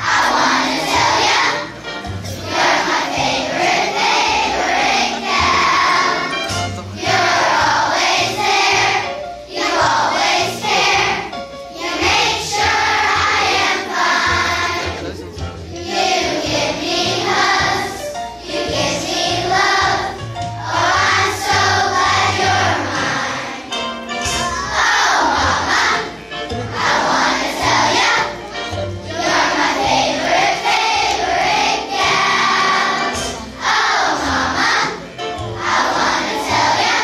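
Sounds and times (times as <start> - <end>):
children's choir singing: 0.0 - 37.0.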